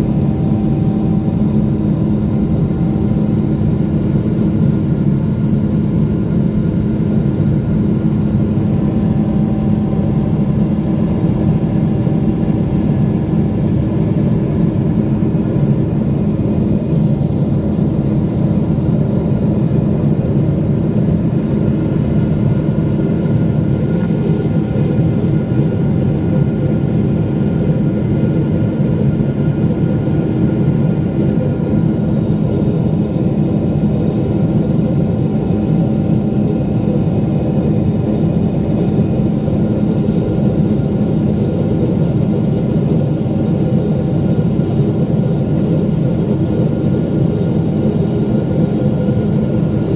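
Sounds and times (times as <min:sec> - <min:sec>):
airplane engines and airflow rumble: 0:00.0 - 0:49.9.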